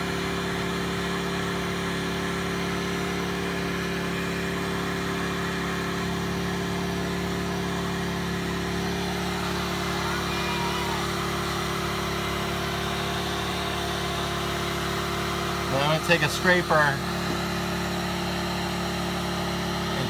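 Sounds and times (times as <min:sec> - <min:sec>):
fan blowing hot air: 0:02.5 - 0:20.0.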